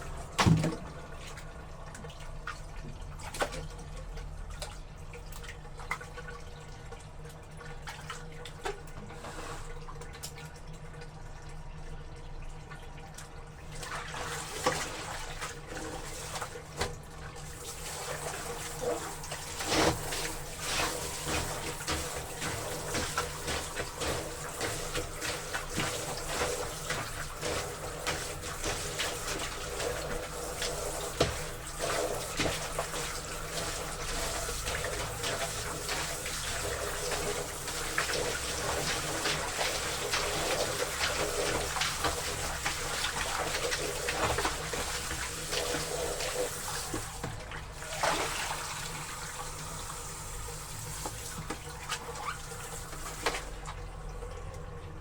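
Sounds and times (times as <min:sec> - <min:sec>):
water splashing in a tub: 0:00.0 - 0:55.0.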